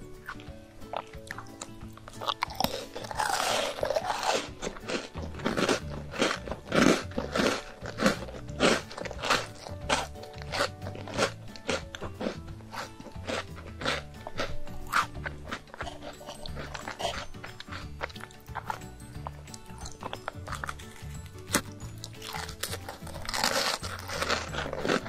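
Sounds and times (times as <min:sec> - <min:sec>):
background music: 0:00.0 - 0:25.0
crunchy chewing of biscuit: 0:00.1 - 0:25.0.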